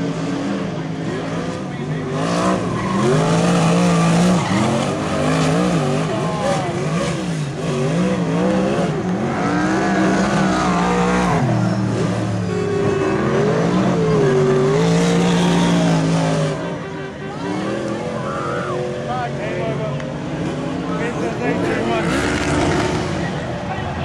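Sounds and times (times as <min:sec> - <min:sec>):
stock car engines revving: 0:00.0 - 0:24.0.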